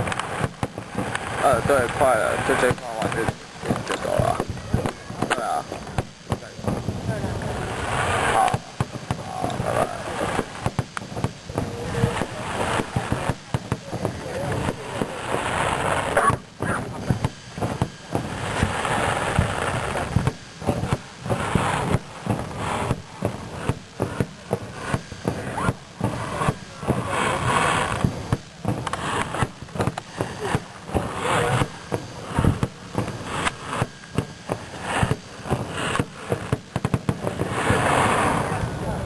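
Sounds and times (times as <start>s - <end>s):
fireworks bangs and pops: 0.0s - 39.0s
fireworks crackling: 0.0s - 39.0s.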